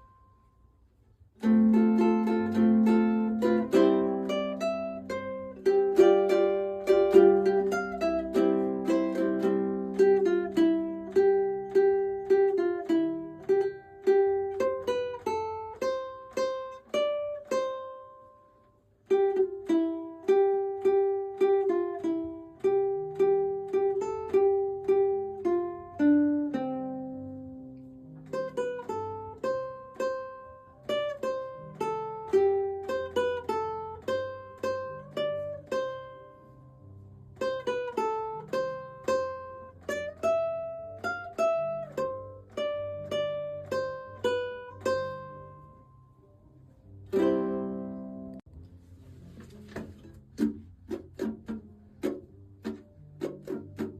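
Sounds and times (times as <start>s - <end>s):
plucked string instrumental: 0.0s - 53.9s.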